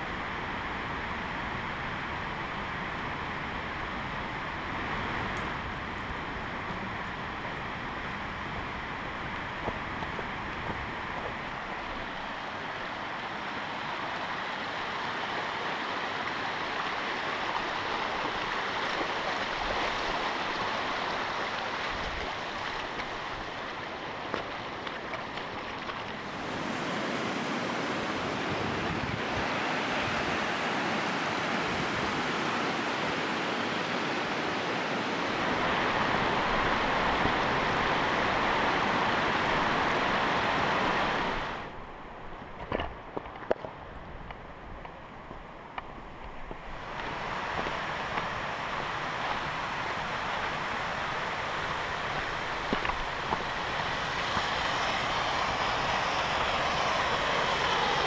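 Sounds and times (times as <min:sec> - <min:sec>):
river water rushing over rock: 0:00.1 - 0:58.0.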